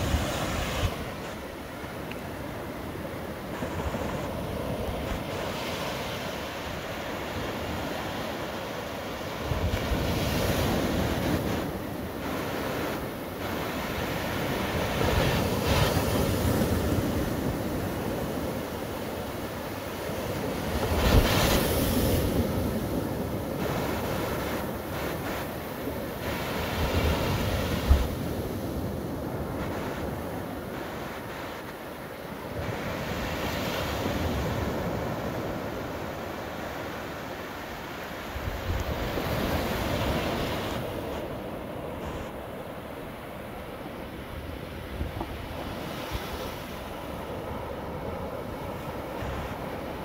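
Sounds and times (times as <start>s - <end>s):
waves breaking on a beach: 0.0s - 50.0s.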